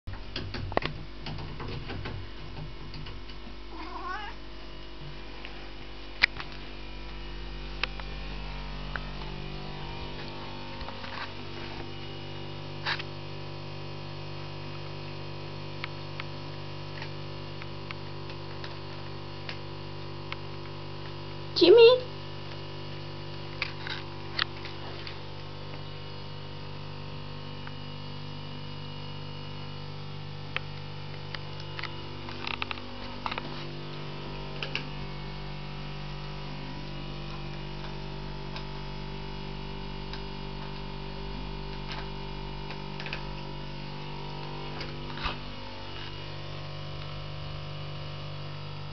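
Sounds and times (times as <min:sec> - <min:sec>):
electrical mains hum: 0:00.1 - 0:48.9.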